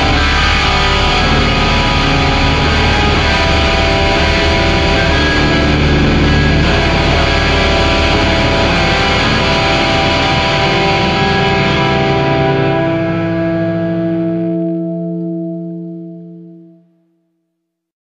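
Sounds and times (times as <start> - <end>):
heavy metal band playing: 0.0 - 14.7
distorted electric guitars: 0.0 - 16.8.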